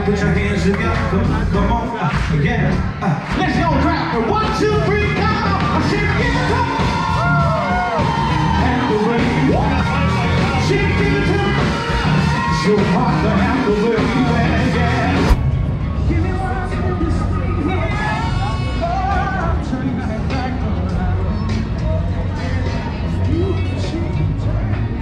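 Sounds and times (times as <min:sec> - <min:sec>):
steady bass line: 0:00.0 - 0:25.0.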